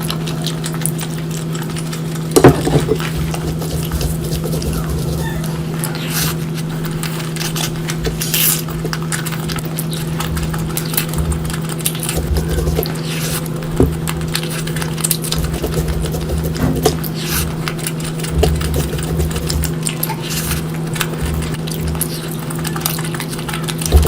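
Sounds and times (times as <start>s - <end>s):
steady low hum: 0.0s - 24.0s
wet chewing and lip-smacking: 0.0s - 24.0s.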